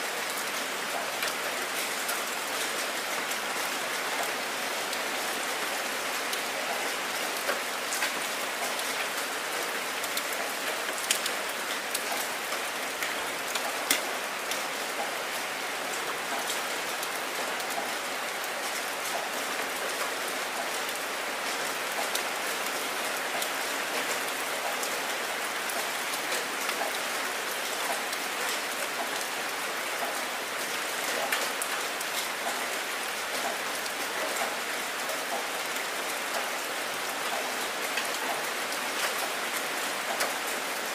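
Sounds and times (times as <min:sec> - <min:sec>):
heavy rain splashing on wet ground: 0:00.0 - 0:40.9.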